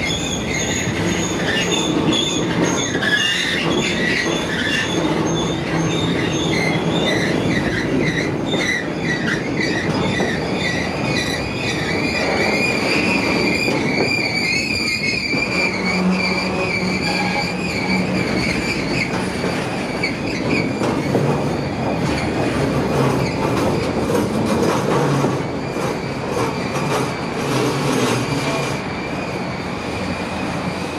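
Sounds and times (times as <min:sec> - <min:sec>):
train wheels rumbling and clicking: 0:00.0 - 0:30.9
train wheels squealing: 0:00.0 - 0:30.9.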